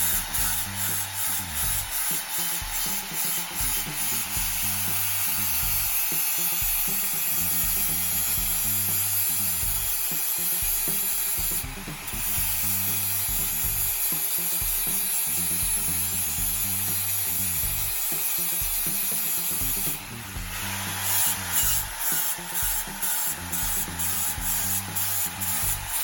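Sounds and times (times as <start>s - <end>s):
background music with bassline: 0.0s - 26.0s
power grinder grinding steel blade: 0.0s - 26.0s.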